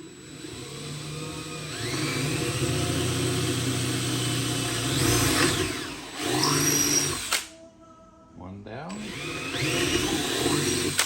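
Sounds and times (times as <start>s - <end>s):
power drill boring through wood: 0.0s - 7.5s, 8.9s - 11.0s.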